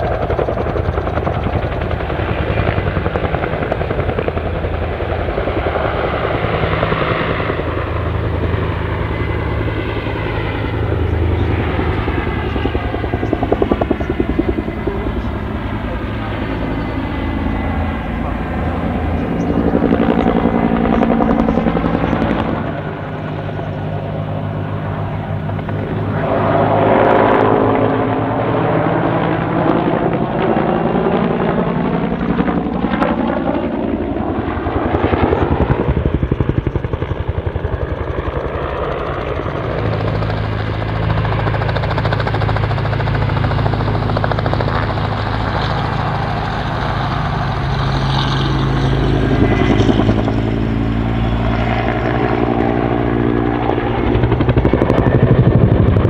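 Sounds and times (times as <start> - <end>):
helicopter rotor beating: 0.0 - 56.0.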